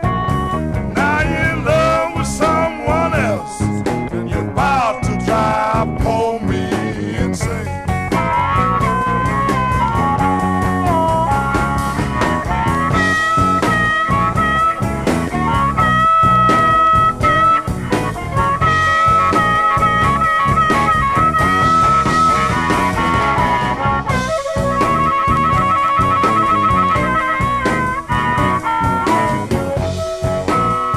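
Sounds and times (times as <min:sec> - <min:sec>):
blues band playing: 0:00.0 - 0:30.9
lead guitar bending notes: 0:00.0 - 0:30.9.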